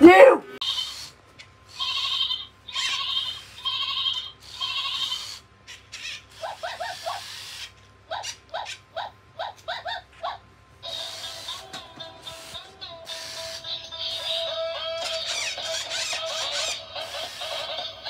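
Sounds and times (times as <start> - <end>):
toy robot dog synthesized cries: 0.0 - 1.1, 1.7 - 18.0.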